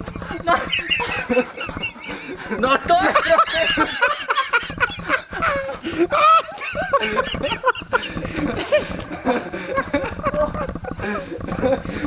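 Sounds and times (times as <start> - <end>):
people giggling: 0.0 - 12.0.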